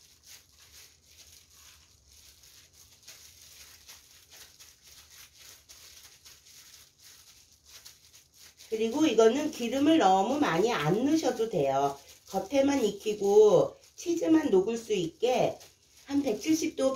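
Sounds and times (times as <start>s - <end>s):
plastic gloves rustling: 0.0s - 16.9s.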